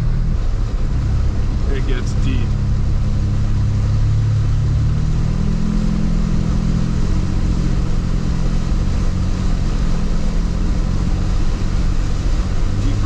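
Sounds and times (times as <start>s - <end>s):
car engine running while driving: 0.0s - 13.0s.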